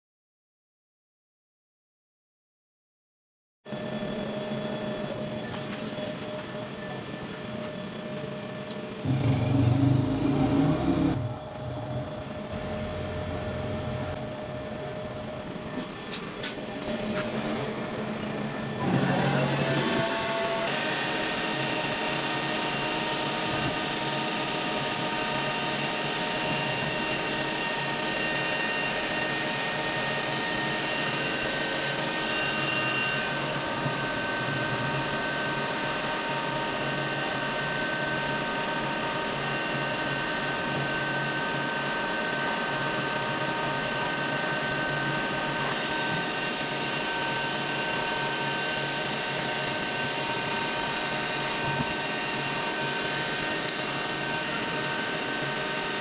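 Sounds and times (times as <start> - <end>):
milling machine whine: 3.7 - 56.0.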